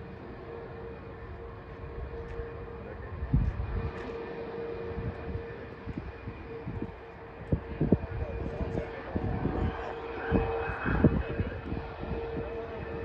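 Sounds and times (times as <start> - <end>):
distant jet engines: 0.0 - 13.0.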